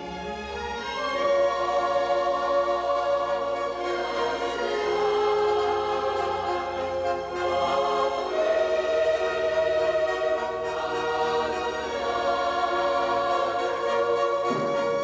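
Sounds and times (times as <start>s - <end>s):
symphony orchestra: 0.0s - 15.0s
girls' choir singing a hymn: 0.8s - 15.0s.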